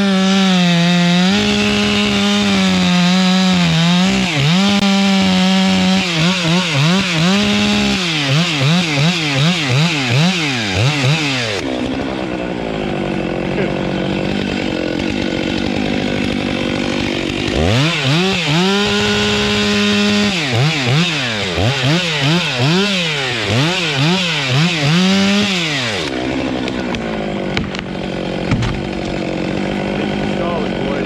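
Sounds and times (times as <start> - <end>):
chainsaw revving: 0.0 - 31.0
engine droning: 0.0 - 31.0.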